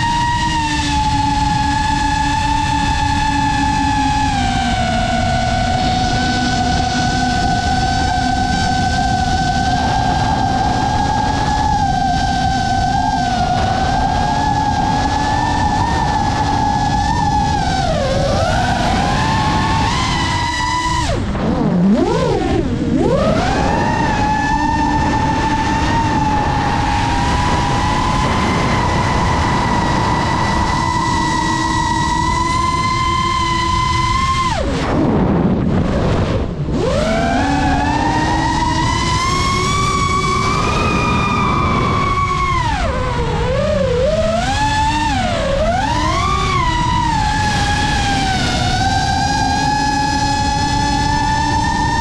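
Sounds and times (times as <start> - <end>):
drone motors whining: 0.0 - 52.0
rushing wind noise: 0.0 - 52.0
low rumble: 0.9 - 51.9.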